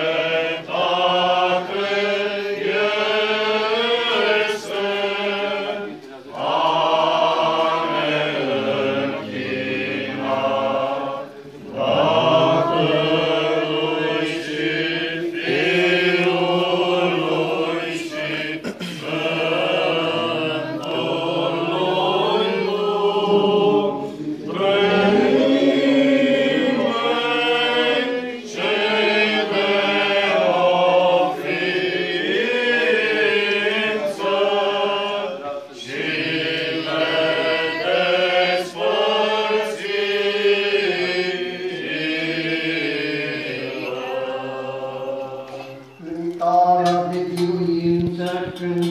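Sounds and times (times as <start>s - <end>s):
voices singing liturgical chant: 0.0s - 48.9s.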